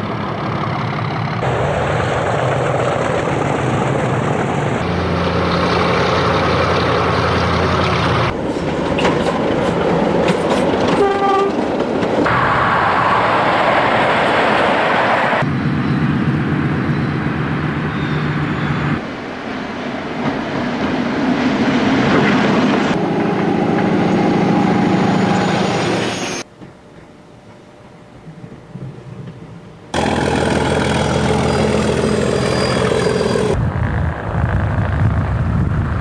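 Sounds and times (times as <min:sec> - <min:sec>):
train wagons rolling on rails: 0:00.0 - 0:33.6
diesel train engines running: 0:00.0 - 0:33.7.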